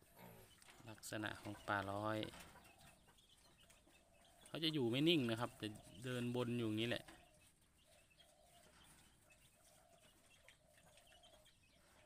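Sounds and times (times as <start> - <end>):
faint farmyard animals: 0.0 - 12.0.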